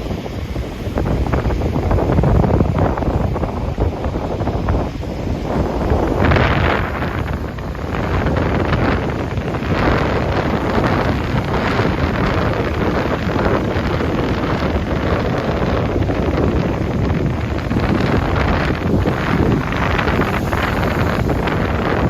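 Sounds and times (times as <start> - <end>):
strong wind buffeting microphone: 0.0 - 22.0
surf washing on beach: 0.0 - 22.0.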